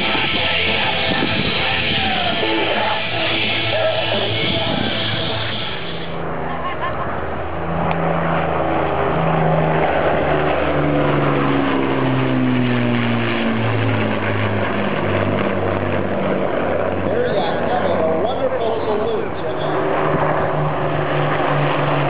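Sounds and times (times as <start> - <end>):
propeller plane engines droning: 0.0 - 22.0.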